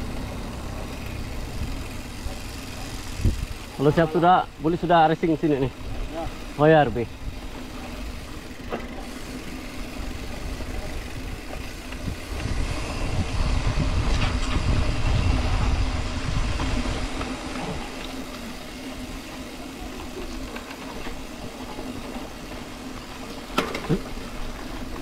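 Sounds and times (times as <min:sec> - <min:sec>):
car engine hum: 0:00.0 - 0:25.0
road rumble: 0:00.0 - 0:25.0.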